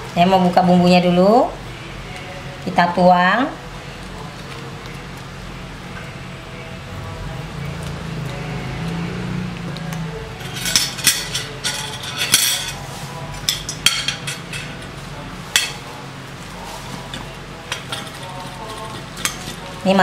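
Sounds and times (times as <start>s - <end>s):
low hum: 3.6s - 19.8s.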